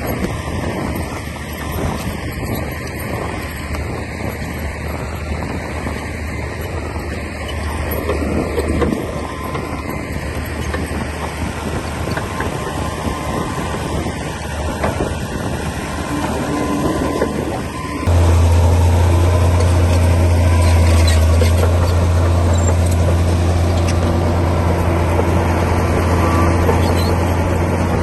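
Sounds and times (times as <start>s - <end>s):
bulldozer diesel engine: 0.0s - 28.0s.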